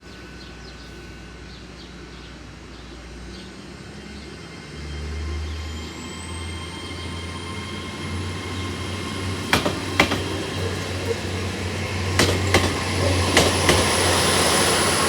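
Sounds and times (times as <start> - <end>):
train engine rumble: 0.0 - 15.0.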